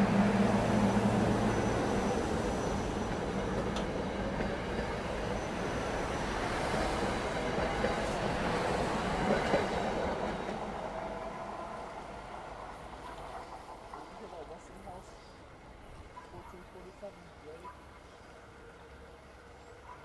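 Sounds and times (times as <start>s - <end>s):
train wheels rumbling on rail: 0.0s - 19.8s.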